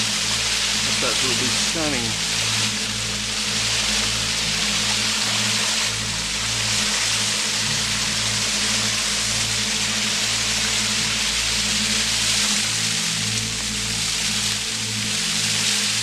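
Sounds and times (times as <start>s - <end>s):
low sustained musical notes: 0.0s - 16.0s
waterfall rushing: 0.0s - 16.0s.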